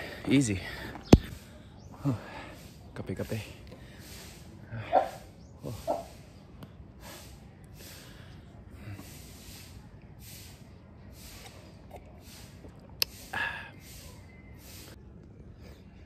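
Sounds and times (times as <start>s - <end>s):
man breathing hard: 0.0s - 10.6s, 12.2s - 14.9s.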